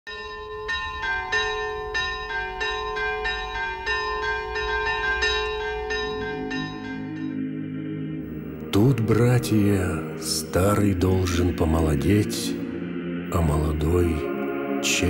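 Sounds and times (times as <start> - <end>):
church bells ringing: 0.1 - 15.0.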